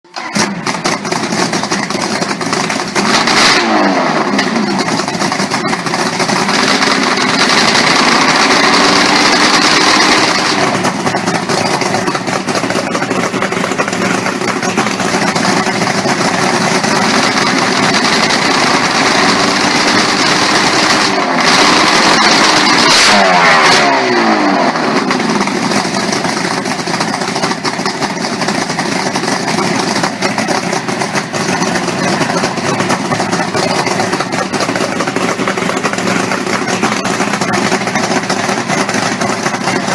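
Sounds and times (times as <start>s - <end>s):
engine revving: 0.2s - 39.9s.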